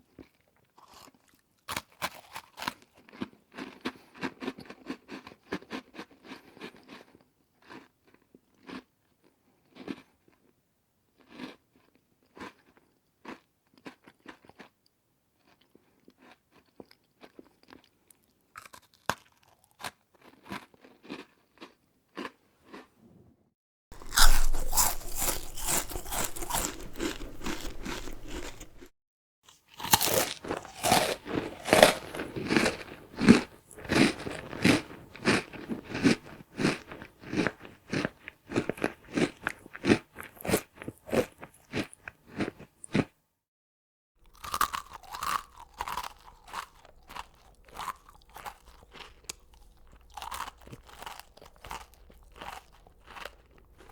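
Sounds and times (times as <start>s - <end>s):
person chewing crunchy snack: 0.2s - 8.9s, 11.2s - 14.8s, 15.4s - 22.9s, 23.9s - 28.9s, 29.5s - 43.1s, 44.2s - 53.9s.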